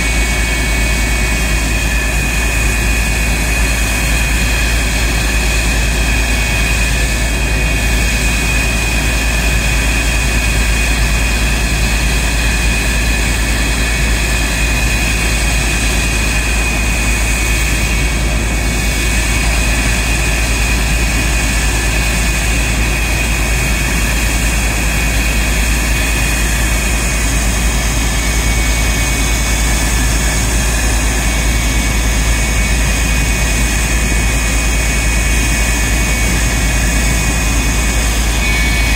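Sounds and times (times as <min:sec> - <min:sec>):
jet engine running with high whine: 0:00.0 - 0:38.9.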